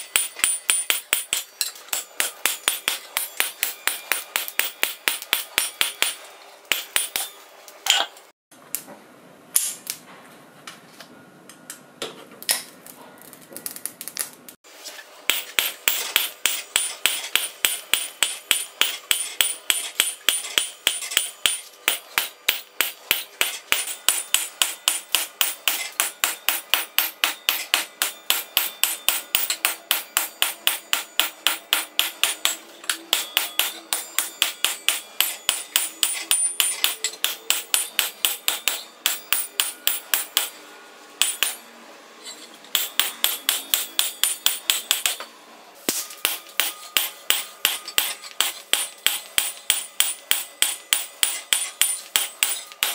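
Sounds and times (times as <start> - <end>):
hammer striking steel on anvil: 0.0 - 8.1, 15.3 - 40.6, 41.2 - 41.6, 42.7 - 45.3, 45.9 - 52.9.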